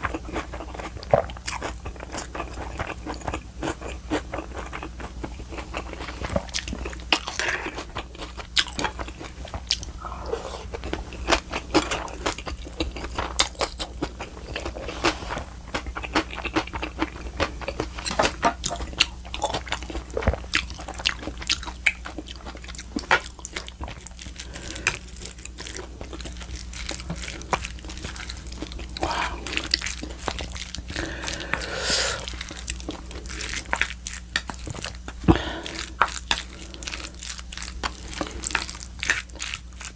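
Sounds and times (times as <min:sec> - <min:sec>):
person chewing and crunching: 0:00.0 - 0:39.9
steady low hum: 0:00.0 - 0:39.9.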